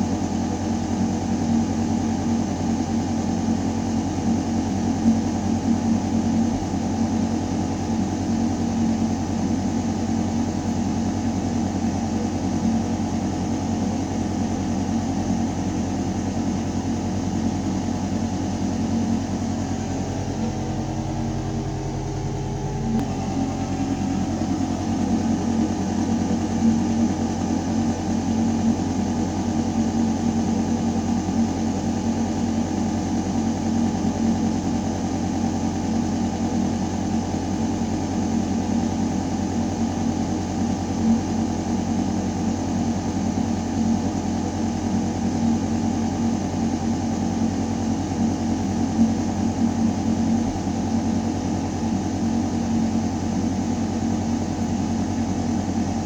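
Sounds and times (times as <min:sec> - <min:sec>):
ventilation system hum: 0:00.0 - 0:56.0.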